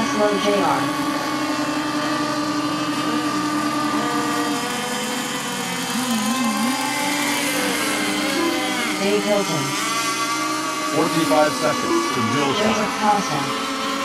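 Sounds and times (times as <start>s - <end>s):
small boat engines running: 0.0s - 14.0s.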